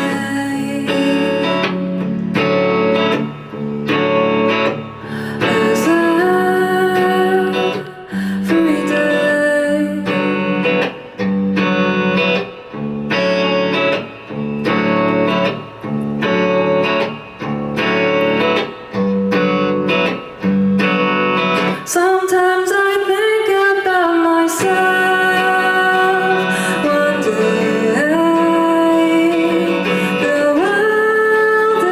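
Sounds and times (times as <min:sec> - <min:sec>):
guitar strumming chords: 0:00.0 - 0:31.9.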